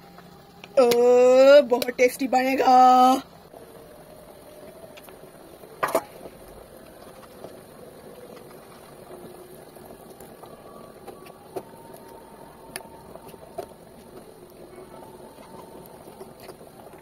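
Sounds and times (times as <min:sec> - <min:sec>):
curry bubbling in a pot: 0:00.1 - 0:17.0
liquid pouring: 0:03.3 - 0:17.0.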